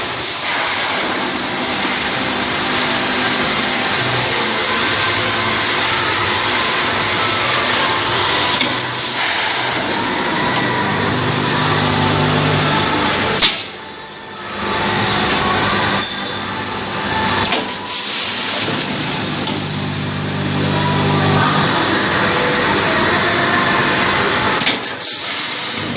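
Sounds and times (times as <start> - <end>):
packing machine humming: 0.0 - 25.9.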